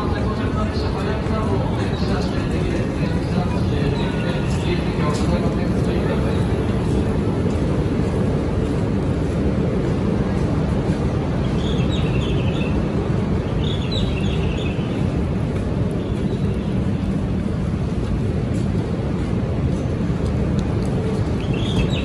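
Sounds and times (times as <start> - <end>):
station platform rumble: 0.0 - 22.0.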